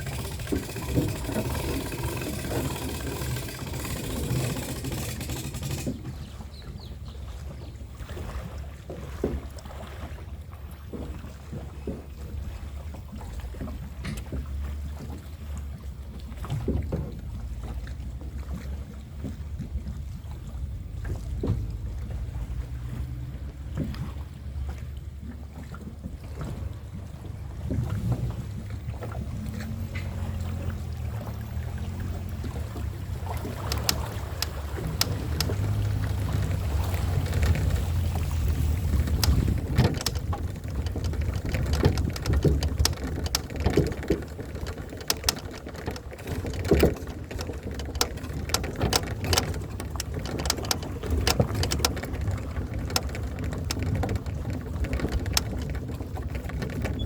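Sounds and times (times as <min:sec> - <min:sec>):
knocks and clatter on board: 0:00.0 - 0:06.5, 0:13.1 - 0:24.2, 0:25.6 - 0:57.0
boat motor running: 0:00.0 - 0:57.0.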